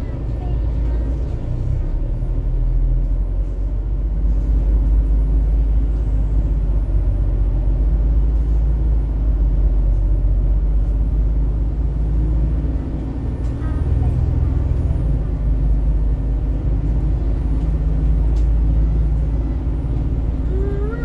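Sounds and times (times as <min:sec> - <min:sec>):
bus engine rumble: 0:00.0 - 0:21.0.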